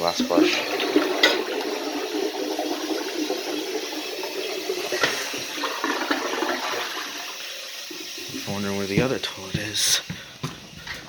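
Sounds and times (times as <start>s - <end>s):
toilet flush click: 0.0s - 9.1s
rush of flushing water: 0.0s - 11.0s.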